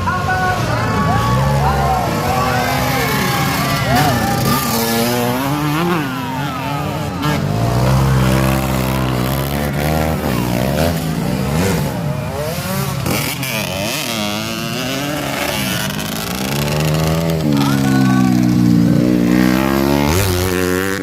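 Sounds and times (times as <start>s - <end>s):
motocross bike engines racing: 0.0s - 21.0s.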